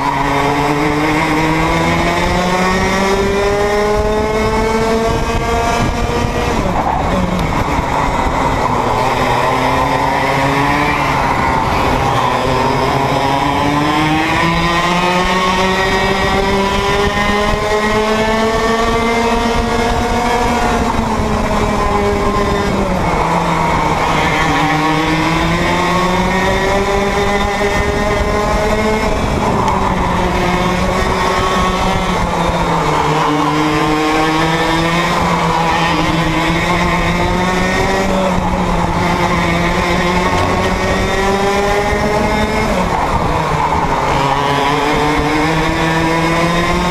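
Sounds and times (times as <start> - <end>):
kart engine revving: 0.0 - 46.9.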